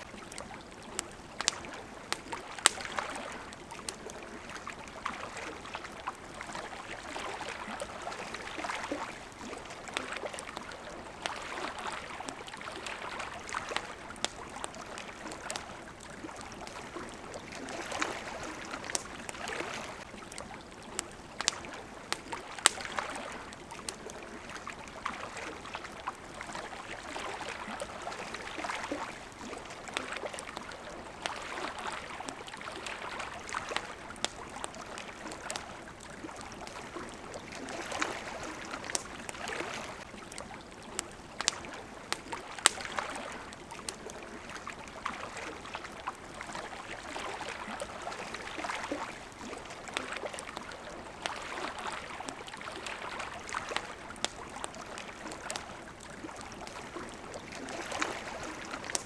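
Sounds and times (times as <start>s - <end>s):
campfire crackling and popping: 0.0s - 59.0s
water lapping gently: 0.0s - 59.0s.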